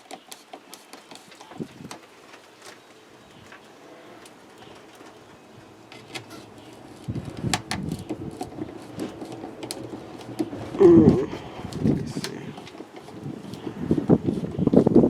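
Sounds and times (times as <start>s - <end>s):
handling clicks and knocks: 0.0s - 14.8s
rustling: 0.0s - 15.0s.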